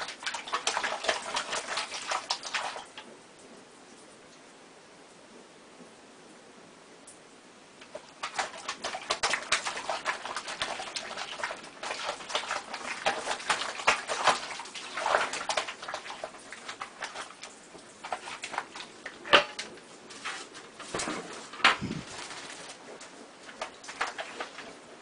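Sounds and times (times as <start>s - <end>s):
cat splashing water in sink: 0.0s - 3.1s, 7.8s - 25.0s.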